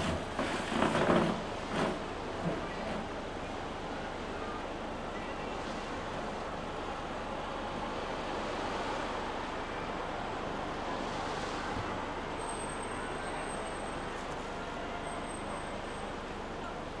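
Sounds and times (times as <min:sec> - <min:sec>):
boat engines rumbling: 0:00.0 - 0:17.0.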